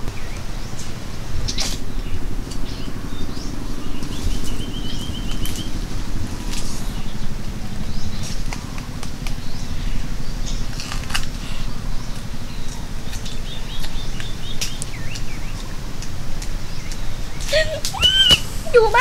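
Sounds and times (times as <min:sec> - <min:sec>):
small birds chirping: 0:00.0 - 0:19.0
wind rumble on microphone: 0:00.0 - 0:19.0.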